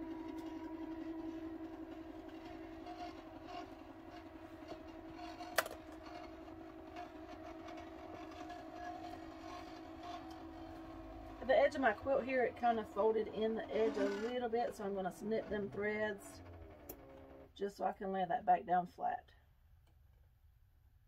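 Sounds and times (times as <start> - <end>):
motor hum: 0.0 - 17.6.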